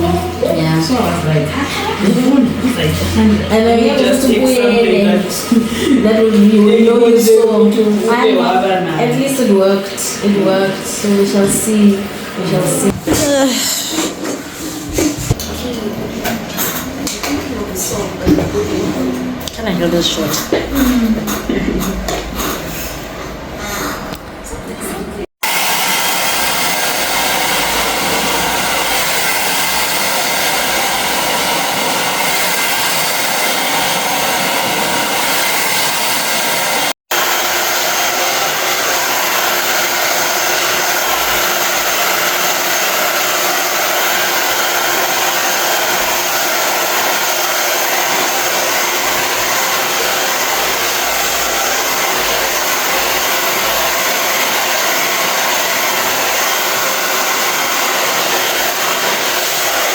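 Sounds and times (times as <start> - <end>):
hair dryer blowing: 0.0 - 22.8, 25.3 - 59.9.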